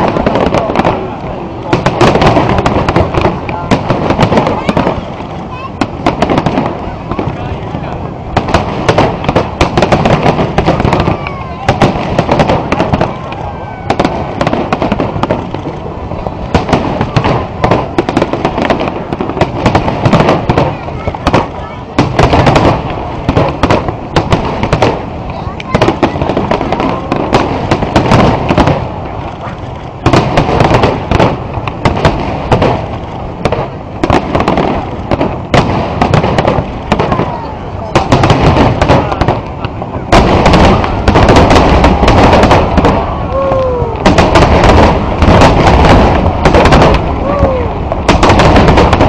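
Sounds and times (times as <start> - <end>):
fireworks crackling: 0.0 - 49.0
firework shells bursting: 8.3 - 49.0.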